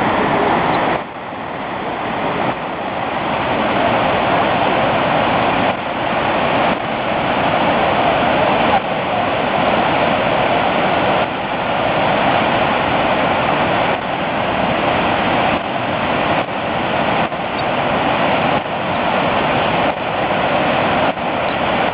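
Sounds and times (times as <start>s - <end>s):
waterfall rushing onto rocks: 0.0s - 21.9s.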